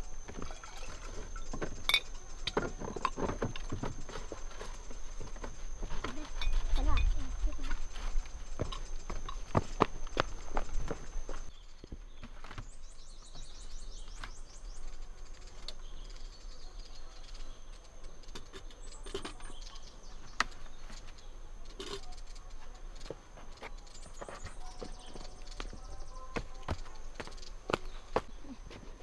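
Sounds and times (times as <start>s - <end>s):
small birds chirping trills: 0.0s - 29.0s.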